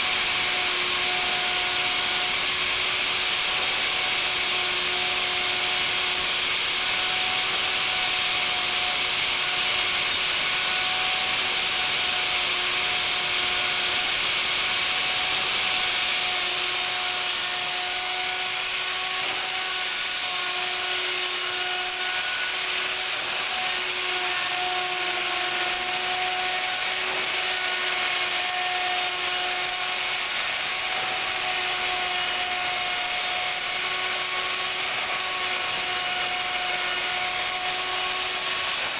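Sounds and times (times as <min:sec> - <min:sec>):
router bit cutting wood: 0:00.0 - 0:38.9
router motor whining: 0:00.0 - 0:38.9.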